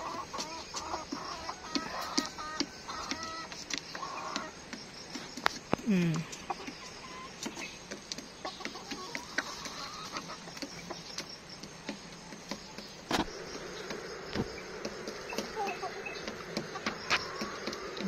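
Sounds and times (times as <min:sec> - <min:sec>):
chickens clucking softly: 0:00.0 - 0:18.0.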